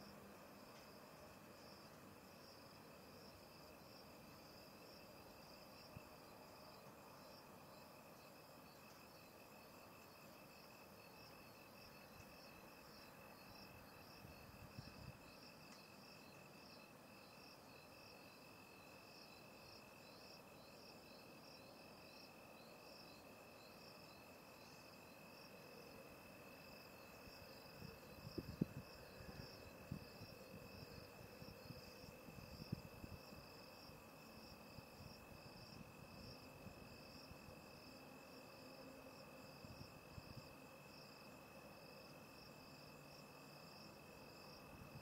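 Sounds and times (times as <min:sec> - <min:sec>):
cricket chirping in pulses: 0:00.0 - 0:45.0.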